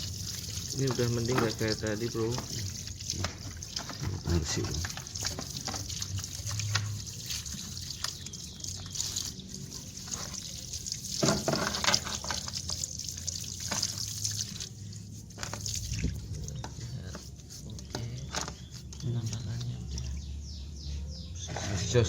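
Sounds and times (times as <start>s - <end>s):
water trickling and dripping: 0.0s - 20.4s.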